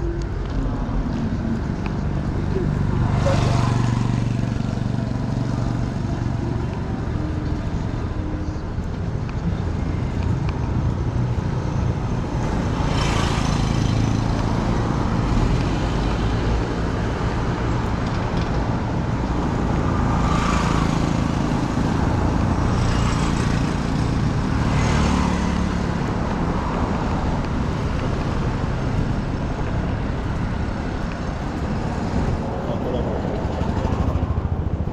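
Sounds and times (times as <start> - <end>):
loud vehicles passing: 0.0 - 34.9
traffic rumble: 0.0 - 34.9.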